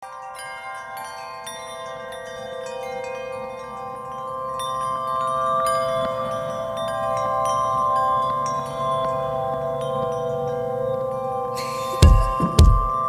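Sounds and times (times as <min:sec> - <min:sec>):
bell-like chime tones: 0:00.0 - 0:13.0.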